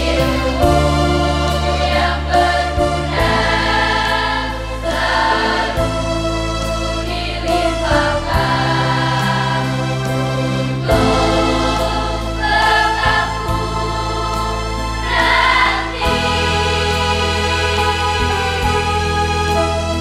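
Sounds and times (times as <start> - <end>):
choir singing in harmony: 0.0 - 20.0
sustained low accompaniment notes: 0.0 - 20.0.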